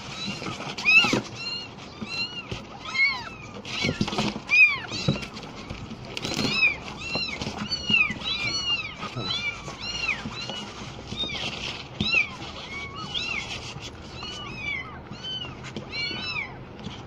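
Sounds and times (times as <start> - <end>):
kittens mewing: 0.0 - 17.0.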